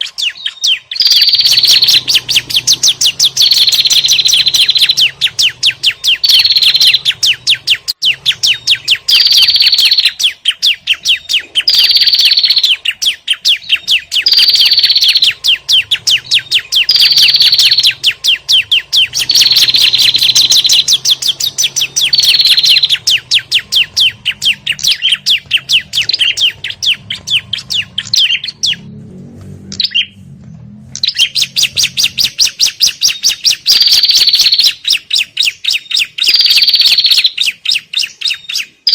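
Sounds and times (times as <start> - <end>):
birds chirping sharply: 0.0 - 38.9.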